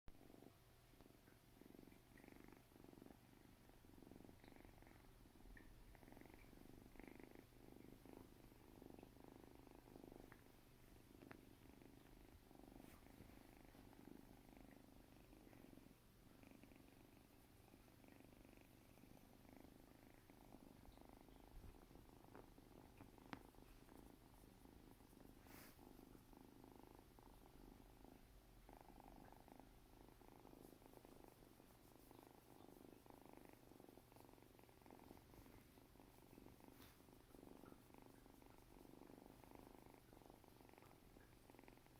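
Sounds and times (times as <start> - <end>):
kitten purring: 0.1 - 41.9.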